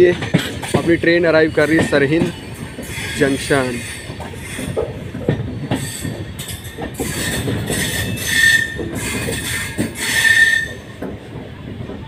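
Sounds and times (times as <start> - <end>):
train rumble and clatter: 0.0 - 12.0
train wheel squeals: 0.4 - 11.1.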